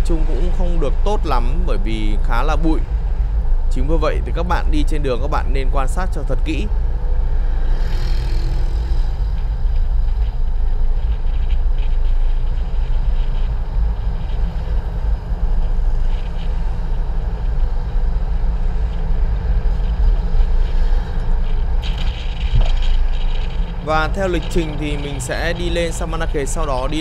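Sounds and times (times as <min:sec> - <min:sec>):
car wind and road noise: 0:00.0 - 0:27.0.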